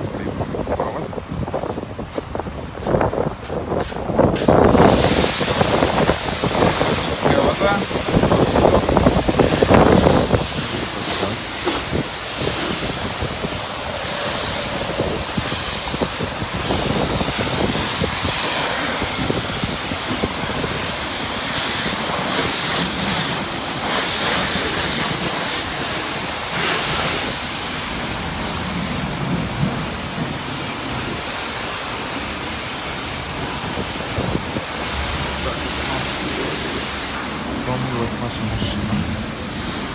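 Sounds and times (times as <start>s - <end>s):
pressure washer spray hissing on car: 2.9s - 39.9s.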